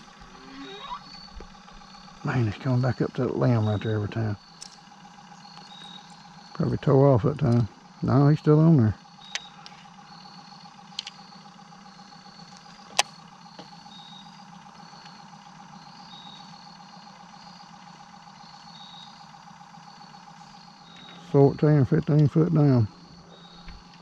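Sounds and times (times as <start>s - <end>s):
small boat motor humming: 0.0s - 24.0s.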